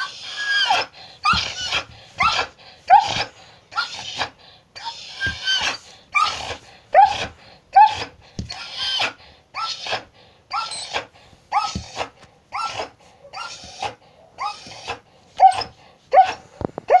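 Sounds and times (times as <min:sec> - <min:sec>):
dog panting with whining squeaks: 0:00.0 - 0:16.4.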